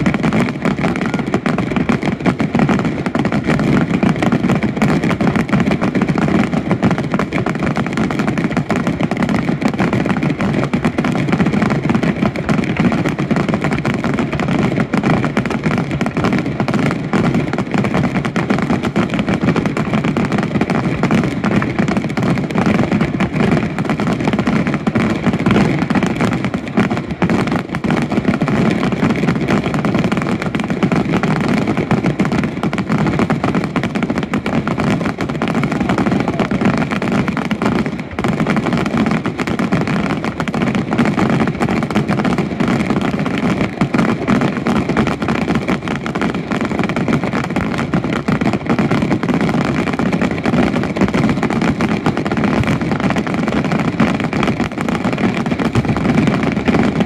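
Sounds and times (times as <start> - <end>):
fireworks crackling: 0.0 - 57.0.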